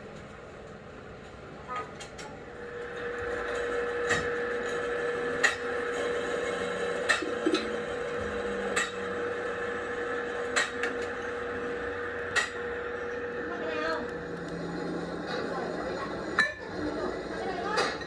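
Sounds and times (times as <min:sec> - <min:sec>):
metalworking machinery hum: 0:00.0 - 0:18.0.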